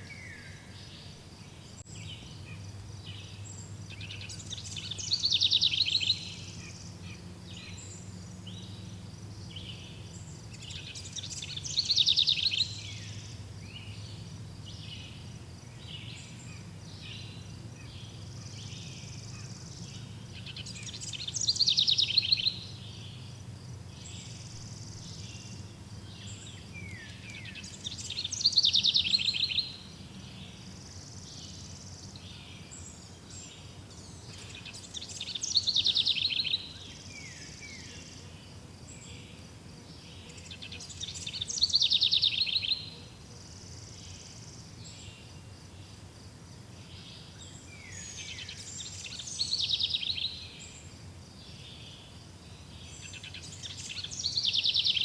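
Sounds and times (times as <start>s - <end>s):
insects: 0.0s - 55.0s
songbird trilling: 1.8s - 38.1s, 40.2s - 43.0s, 47.2s - 50.8s, 52.8s - 55.0s.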